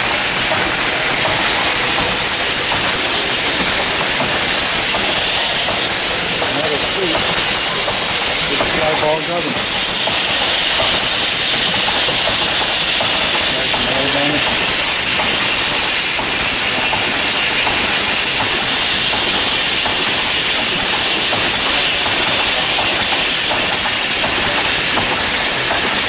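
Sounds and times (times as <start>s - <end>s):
engine hiss: 0.0s - 26.0s
stationary engine clattering: 0.0s - 26.0s.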